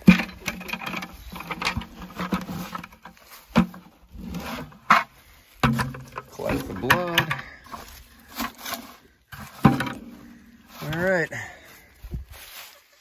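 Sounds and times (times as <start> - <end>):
plastic buckets knocking and scraping: 0.0 - 12.6
footsteps crunching dry leaves: 1.1 - 5.6, 6.2 - 13.0.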